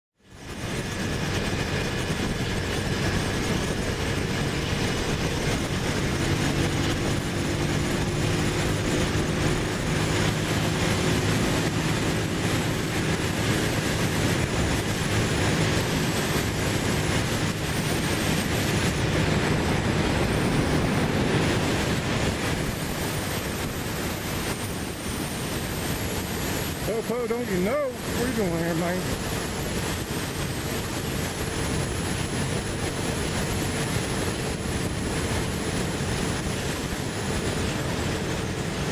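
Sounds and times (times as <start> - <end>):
motorcycle engine drone: 0.2 - 38.9
wind rushing over microphone: 0.3 - 38.9.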